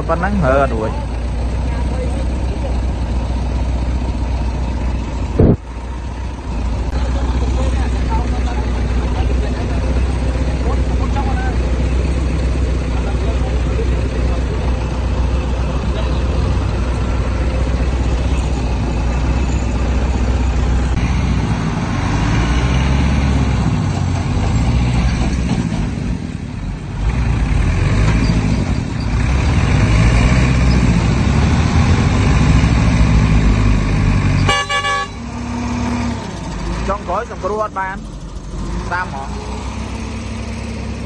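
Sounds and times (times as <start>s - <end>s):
heavy diesel engine revving: 0.0s - 41.0s.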